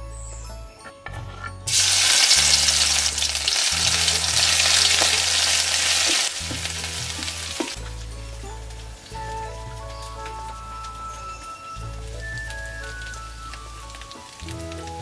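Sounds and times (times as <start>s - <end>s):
food sizzling in hot oil: 1.7s - 15.0s.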